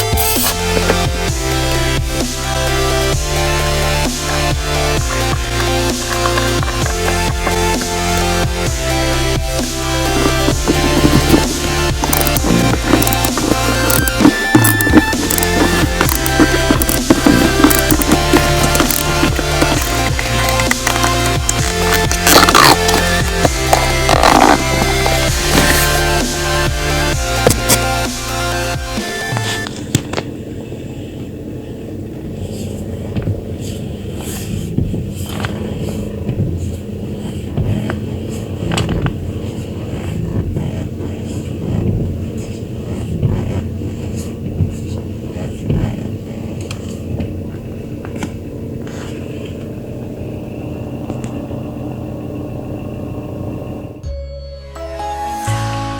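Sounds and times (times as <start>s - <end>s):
car engine rumble: 0.0s - 54.1s.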